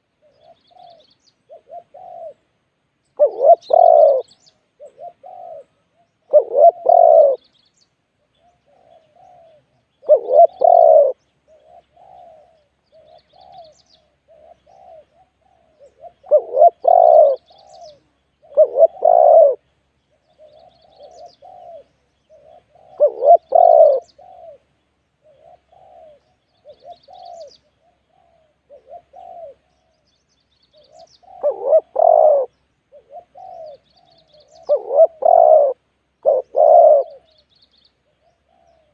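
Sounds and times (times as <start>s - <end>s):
doves cooing: 0.0s - 2.5s, 3.2s - 7.5s, 8.2s - 38.9s.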